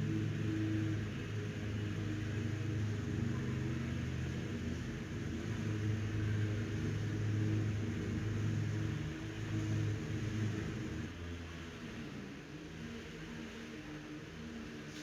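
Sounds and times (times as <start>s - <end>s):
mechanical drone with low hum: 0.0s - 15.0s.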